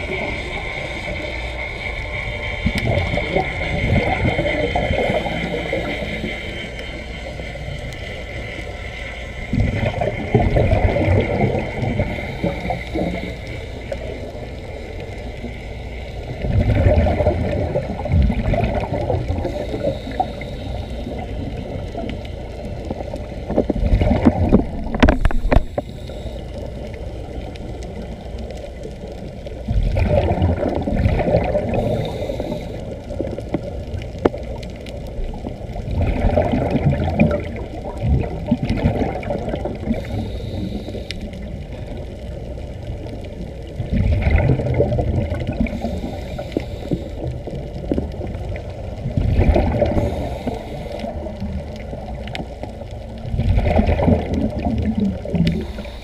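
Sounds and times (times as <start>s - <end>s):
muffled underwater rumble: 0.0s - 56.0s
water bubbling and moving: 0.0s - 56.0s.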